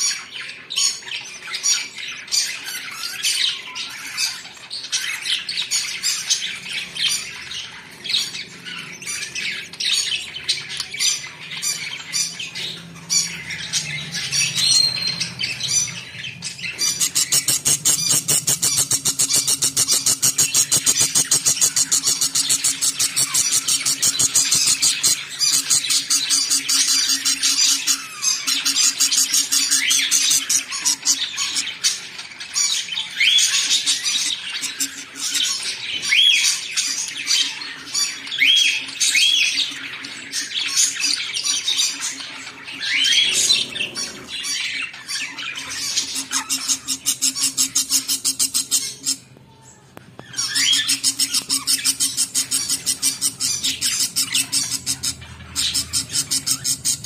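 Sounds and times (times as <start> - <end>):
high-pitched bird chirps: 0.0 - 57.0.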